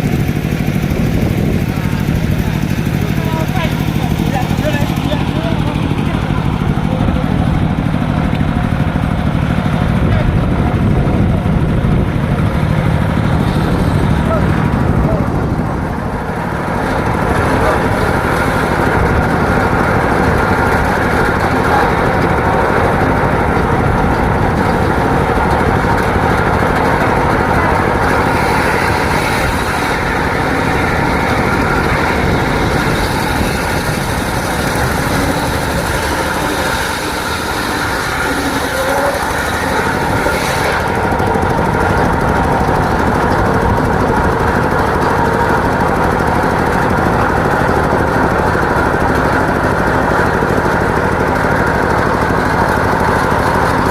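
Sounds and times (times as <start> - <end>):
circular sawmill sawing timber: 0.0 - 53.9.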